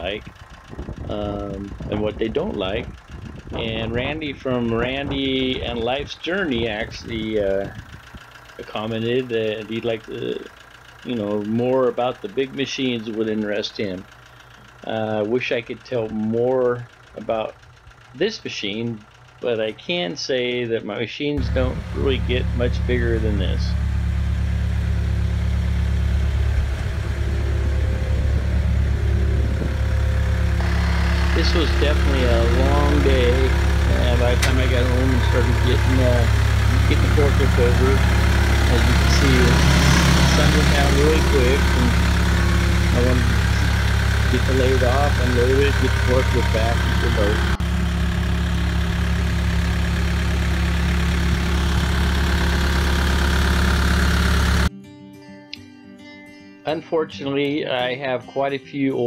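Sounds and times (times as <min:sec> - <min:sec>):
forklift engine idling: 0:00.0 - 0:20.8, 0:21.4 - 0:54.7.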